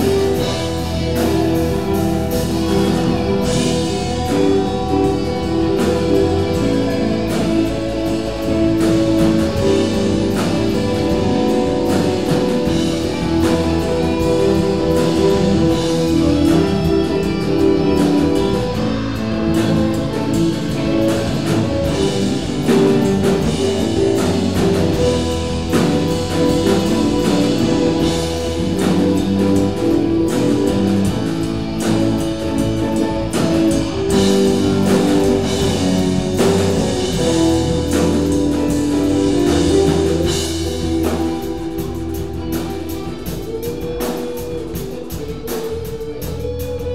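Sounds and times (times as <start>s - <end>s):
bass guitar: 0.0s - 46.9s
drum kit: 0.0s - 46.9s
electric guitars: 0.0s - 46.9s
keyboard: 0.0s - 46.9s.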